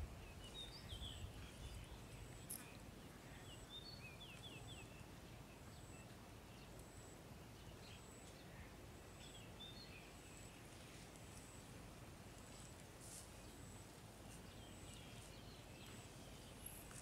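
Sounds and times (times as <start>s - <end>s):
small birds chirping: 0.0s - 17.0s
faint high peep: 0.4s - 17.0s.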